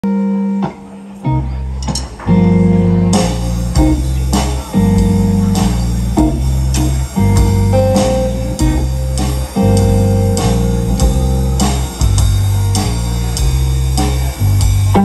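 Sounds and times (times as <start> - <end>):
electric guitar riffing: 0.0 - 15.0
electric bass: 1.3 - 15.0
drums and cymbals: 1.8 - 15.0.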